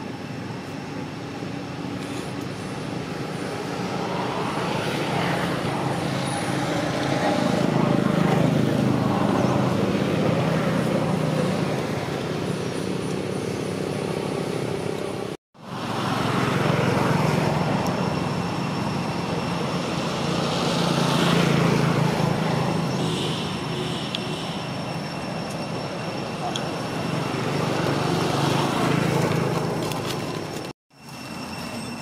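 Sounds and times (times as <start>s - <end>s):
rumble of passing traffic: 0.0s - 32.0s.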